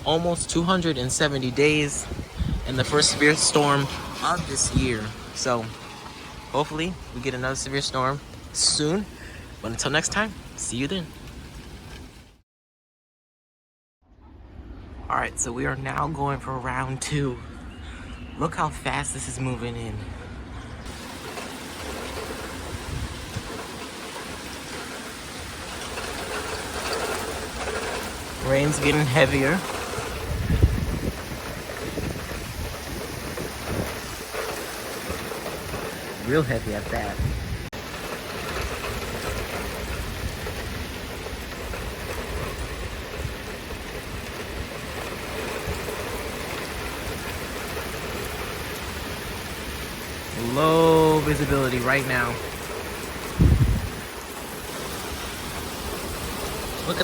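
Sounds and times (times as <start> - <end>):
rain falling steadily: 0.0 - 12.4, 20.8 - 57.0.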